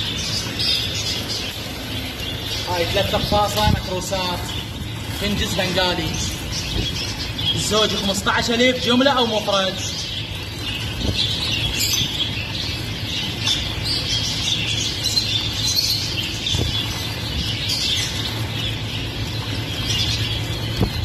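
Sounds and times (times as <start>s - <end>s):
finches chirping and twittering: 0.0s - 21.0s
wings fluttering: 0.0s - 21.0s.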